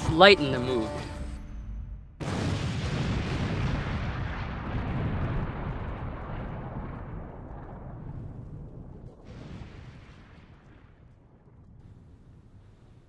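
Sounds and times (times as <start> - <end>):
explosion boom and rumble: 1.5 - 13.0.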